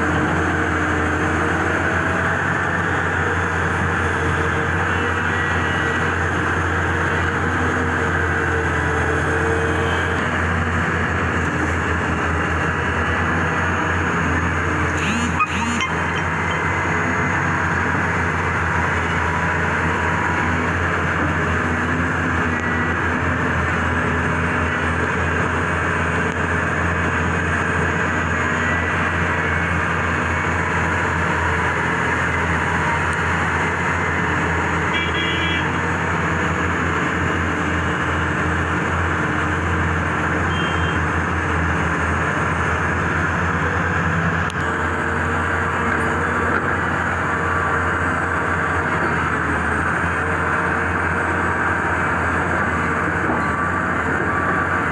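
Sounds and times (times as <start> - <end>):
heavy diesel engines droning: 0.0 - 54.9.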